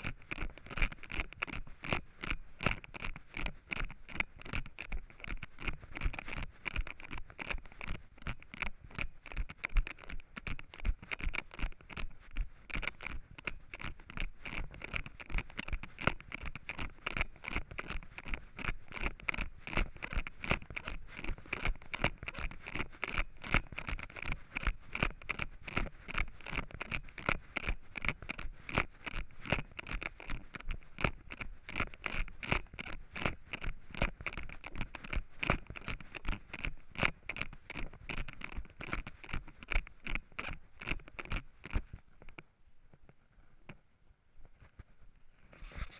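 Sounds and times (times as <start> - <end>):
camera rubbing in hand: 0.0 - 42.4, 44.5 - 45.9.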